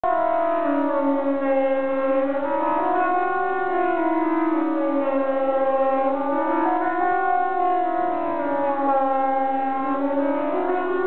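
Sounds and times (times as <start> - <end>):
civil defence siren wailing: 0.0 - 11.0.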